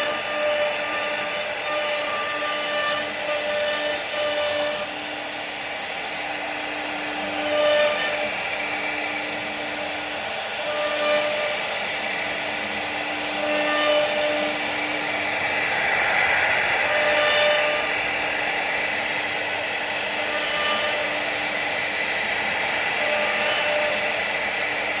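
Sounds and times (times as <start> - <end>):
router spindle cutting wood: 0.0 - 25.0.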